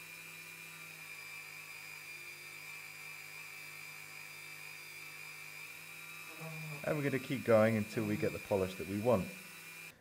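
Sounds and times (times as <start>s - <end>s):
rotary tool humming and whining: 0.0s - 10.0s.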